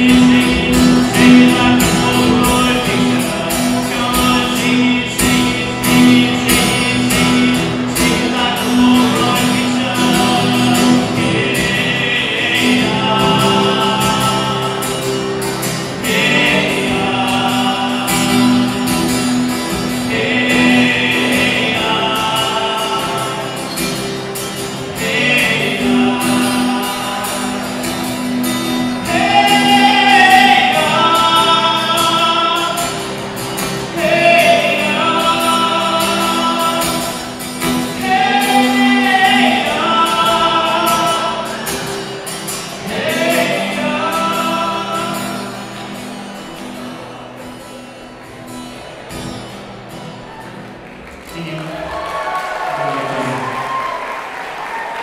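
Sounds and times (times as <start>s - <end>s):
man singing: 0.0s - 46.3s
acoustic guitar: 0.0s - 55.0s.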